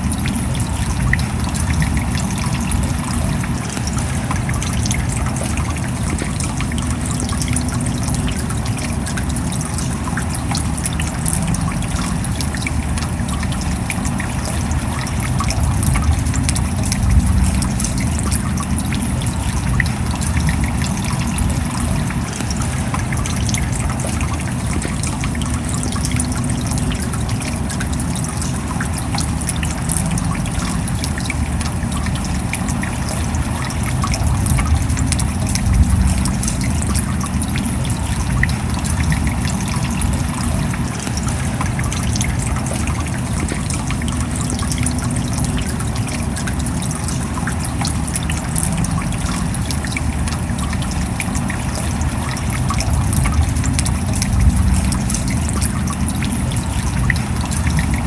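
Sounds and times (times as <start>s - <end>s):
rain falling steadily: 0.0s - 58.0s
water trickling: 0.0s - 58.0s.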